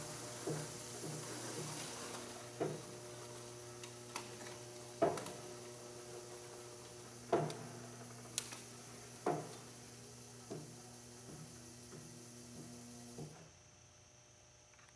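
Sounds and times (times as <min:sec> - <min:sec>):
stretch wrapper drive humming: 0:00.0 - 0:13.4.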